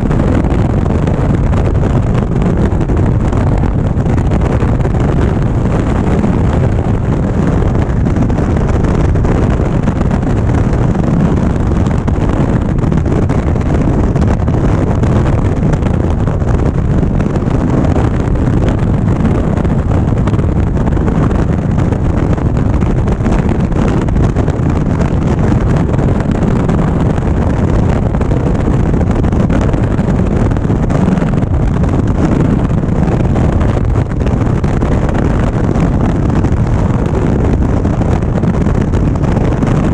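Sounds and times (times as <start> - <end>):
road noise: 0.0 - 39.9
wind buffeting on microphone: 0.0 - 39.9.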